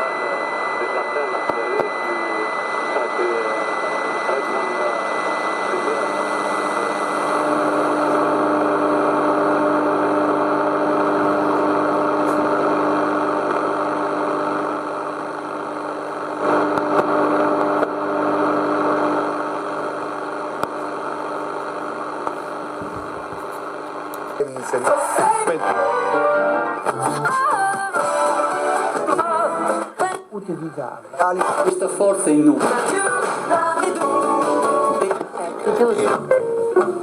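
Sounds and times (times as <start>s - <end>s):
radio static hiss: 0.0s - 37.0s.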